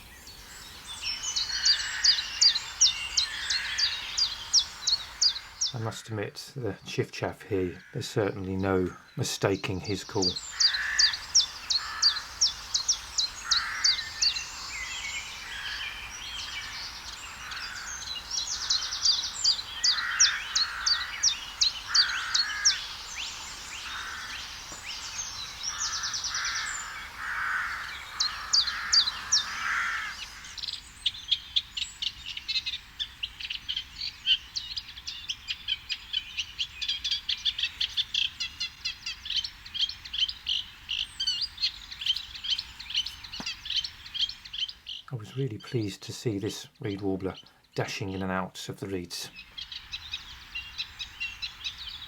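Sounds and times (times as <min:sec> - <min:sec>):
bird chattering song: 0:00.0 - 0:52.0
other birds calling softly: 0:00.0 - 0:52.0.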